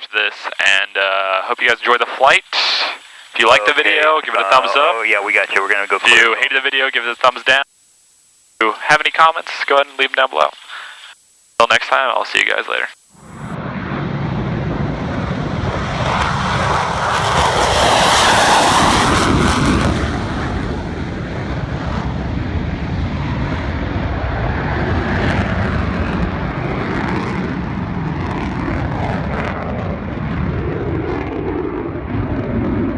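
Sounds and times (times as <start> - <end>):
jet engine roar: 1.4 - 7.6, 12.3 - 32.9.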